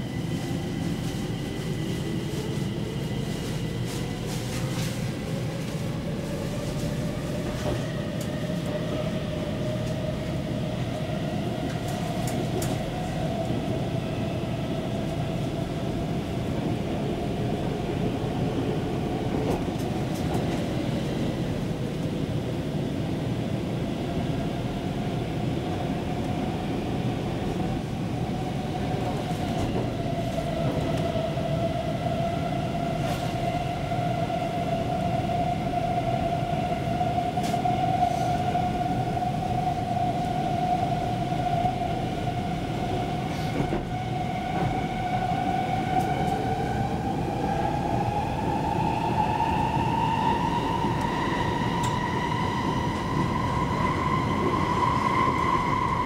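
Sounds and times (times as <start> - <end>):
train wheels rumbling on rail: 0.0 - 56.0
train whine: 0.0 - 56.0.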